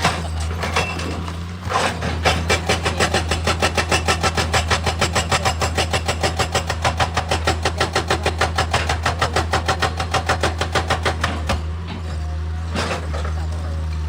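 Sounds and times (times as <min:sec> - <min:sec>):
heavy machinery knocking: 0:00.0 - 0:14.0.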